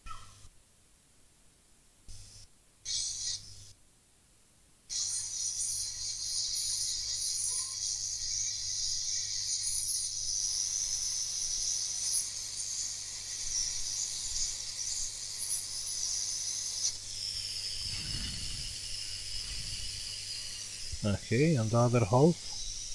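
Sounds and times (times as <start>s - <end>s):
steady high hiss: 0.0s - 22.9s.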